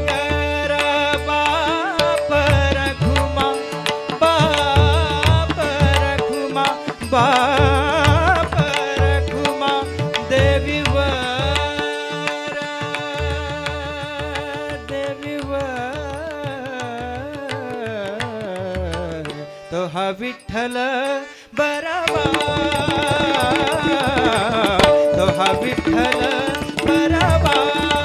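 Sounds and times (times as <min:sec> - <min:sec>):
harmonium drone: 0:00.0 - 0:28.0
man singing devotional melody: 0:00.0 - 0:28.0.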